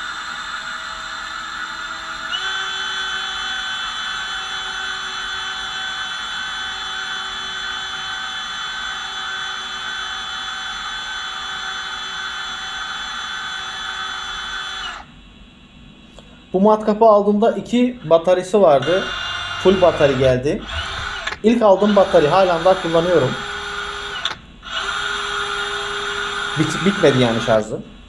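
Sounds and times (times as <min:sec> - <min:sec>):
cordless drill whining: 0:00.0 - 0:15.1, 0:18.0 - 0:27.7.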